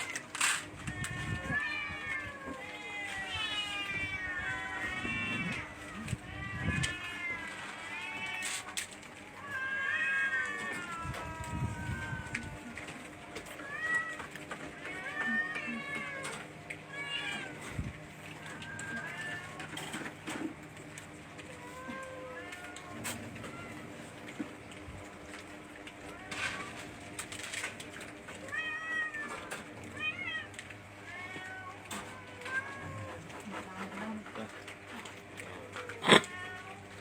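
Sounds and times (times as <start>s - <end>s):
cats meowing: 0.0s - 37.0s.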